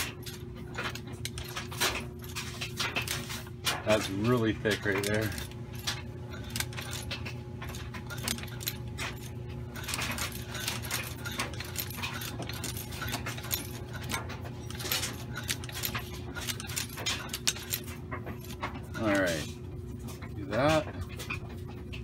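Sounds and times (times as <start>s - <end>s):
hand-cranked sewing machine: 0.0s - 19.4s.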